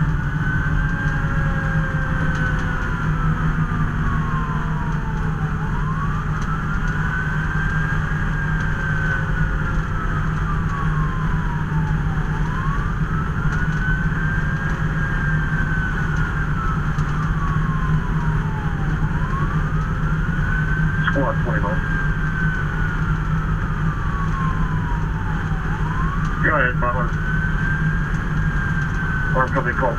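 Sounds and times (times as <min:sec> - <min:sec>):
road noise: 0:00.0 - 0:29.9
siren wailing: 0:00.0 - 0:29.9
truck engine drone: 0:00.0 - 0:29.9.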